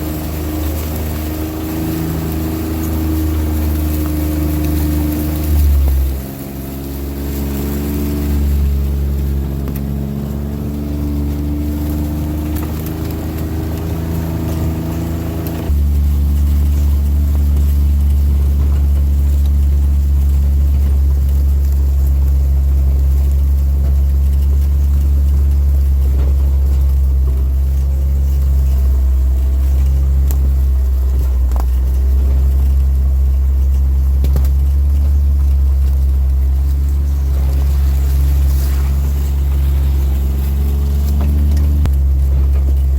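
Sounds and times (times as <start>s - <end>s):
engine humming: 0.0s - 42.9s.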